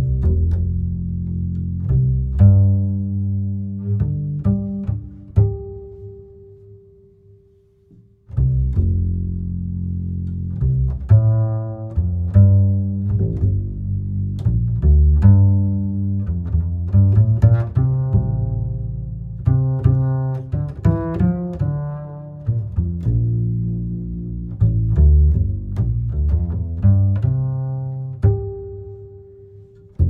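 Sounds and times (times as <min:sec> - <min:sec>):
plucked and bowed strings music: 0:00.0 - 0:30.0.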